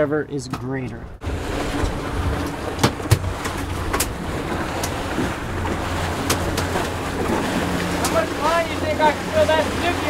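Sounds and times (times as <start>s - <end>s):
boat engine running: 0.0s - 10.0s
wind: 0.0s - 10.0s
sea water noise: 1.1s - 10.0s.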